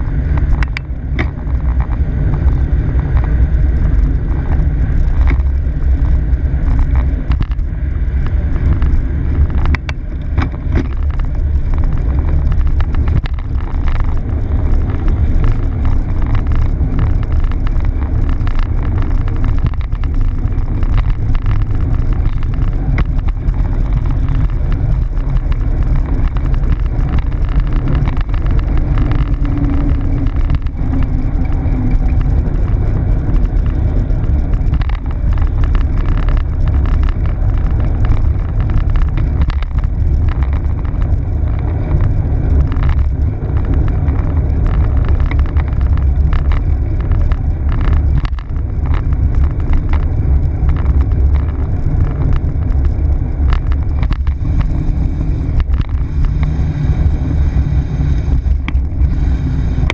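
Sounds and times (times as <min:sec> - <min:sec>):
bike rattles and clicks: 0:00.0 - 0:59.9
wind and tyre rumble: 0:00.0 - 0:59.9.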